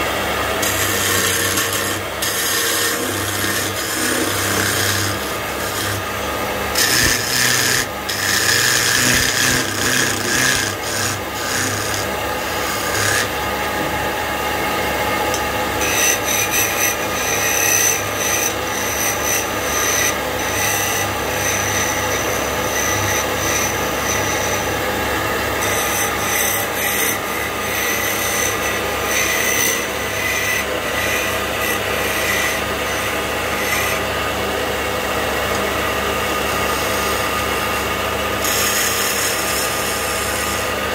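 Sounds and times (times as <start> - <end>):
chisel scraping spinning wood: 0.0 - 14.2, 15.3 - 34.8, 35.4 - 40.9
wood lathe hum: 0.0 - 40.9.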